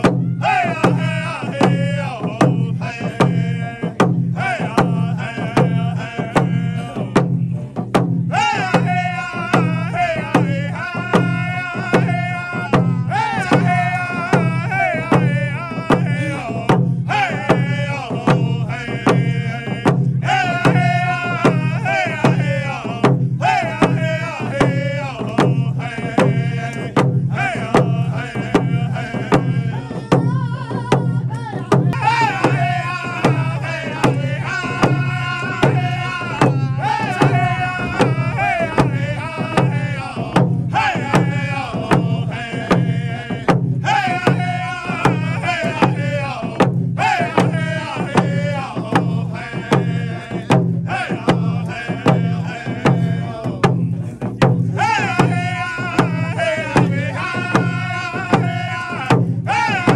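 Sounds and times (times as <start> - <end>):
voices singing high chant: 0.0 - 7.7, 8.3 - 59.9
frame drums beating: 0.0 - 59.9.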